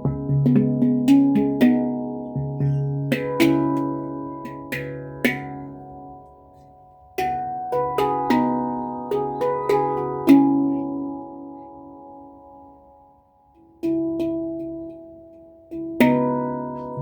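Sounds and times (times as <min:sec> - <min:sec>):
handpan notes ringing: 0:00.0 - 0:17.0.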